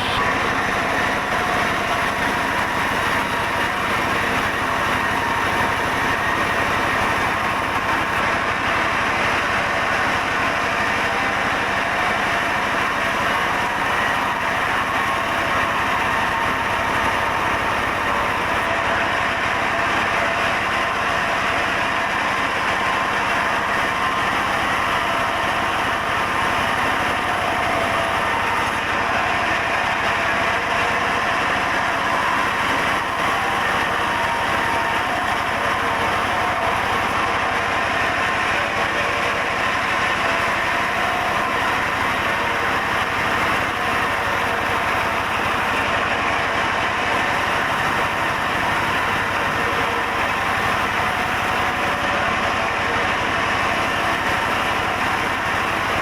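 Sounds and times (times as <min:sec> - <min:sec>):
sawmill saw machinery running: 0:00.0 - 0:56.0.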